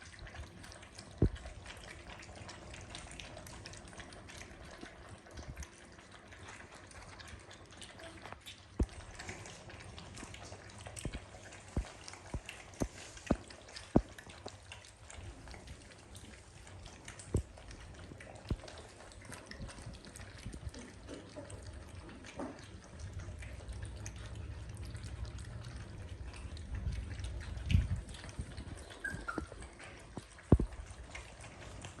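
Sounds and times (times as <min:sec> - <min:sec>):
puppies lapping milk: 0:00.0 - 0:32.0.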